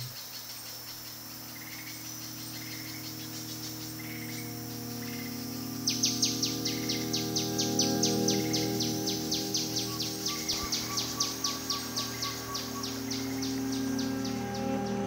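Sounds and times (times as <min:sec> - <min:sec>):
insects chirping: 0:00.0 - 0:15.0
steady low hum: 0:00.0 - 0:15.0.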